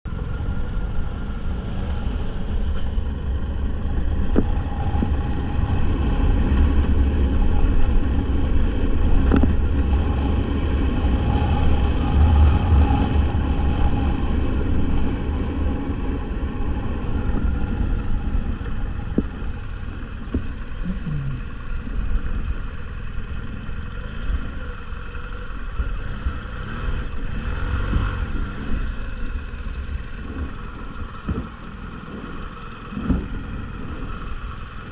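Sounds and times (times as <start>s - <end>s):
vehicle engine rumble: 0.0s - 34.9s.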